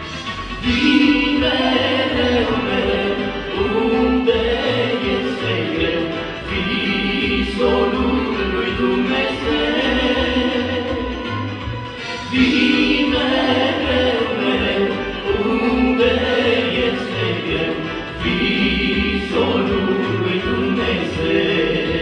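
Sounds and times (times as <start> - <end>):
instrumental backing with bass line: 0.0 - 22.0
vocal group singing in harmony: 0.0 - 22.0.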